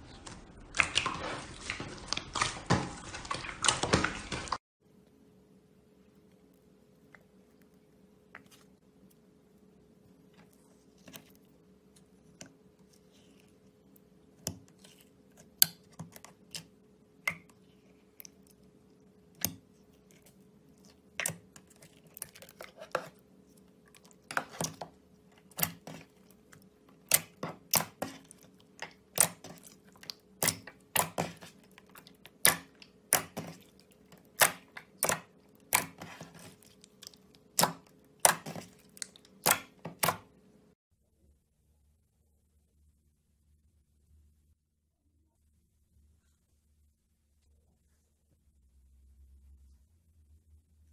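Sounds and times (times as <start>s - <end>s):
faint steady hum: 4.8s - 50.9s.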